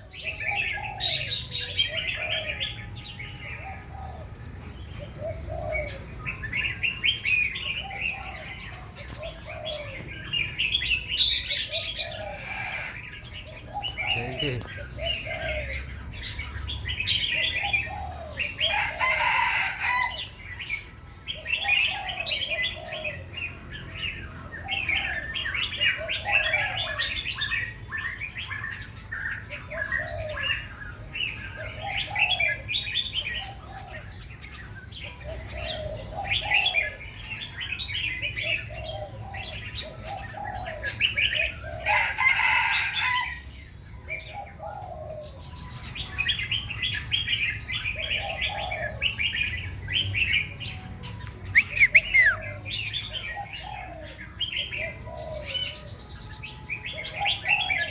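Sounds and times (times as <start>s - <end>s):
birds singing and chirping: 0.0s - 57.9s.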